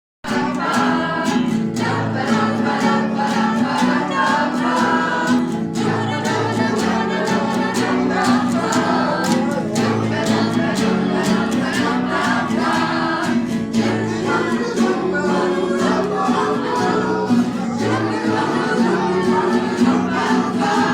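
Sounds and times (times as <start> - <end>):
group of voices chanting: 0.3 - 20.9.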